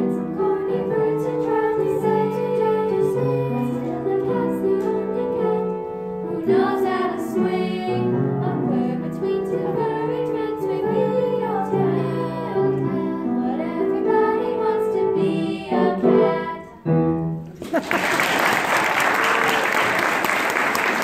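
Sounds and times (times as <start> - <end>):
girls singing in unison: 0.0 - 17.0
piano accompaniment: 0.0 - 17.6.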